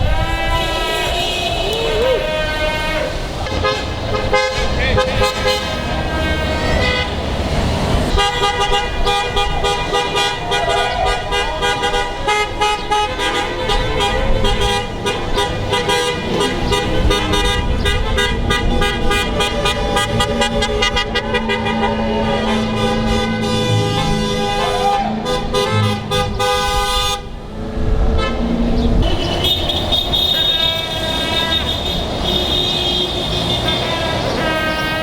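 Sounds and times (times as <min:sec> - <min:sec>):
car horns honking: 0:00.0 - 0:35.0
passing road traffic: 0:00.0 - 0:35.0.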